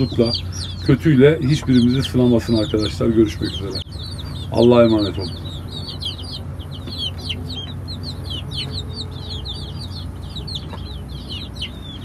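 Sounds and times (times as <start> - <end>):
ducklings and chicks peeping: 0.0 - 12.0
low steady hum: 0.0 - 12.0.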